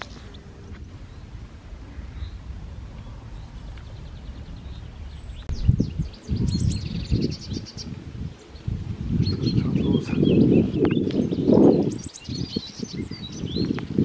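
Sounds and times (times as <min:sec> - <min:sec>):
wind buffeting microphone: 0:00.0 - 0:14.0
songbird singing high notes: 0:01.0 - 0:13.8.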